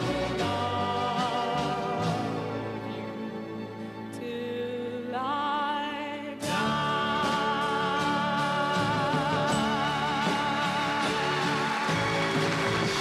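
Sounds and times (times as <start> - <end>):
folk-pop vocal harmony: 0.0 - 3.2, 4.1 - 13.0
double bass: 0.0 - 4.0, 6.4 - 13.0
acoustic guitars: 0.0 - 13.0.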